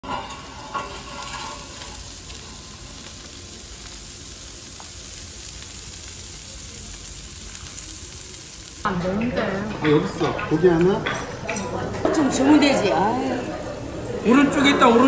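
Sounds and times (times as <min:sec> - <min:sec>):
pork belly sizzling: 0:00.0 - 0:15.0.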